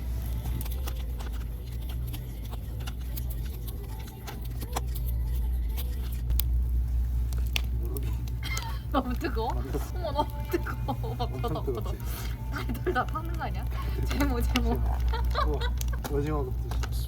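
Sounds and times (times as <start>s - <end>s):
campfire crackling and popping: 0.0s - 17.0s
steady low rumble: 0.0s - 17.0s.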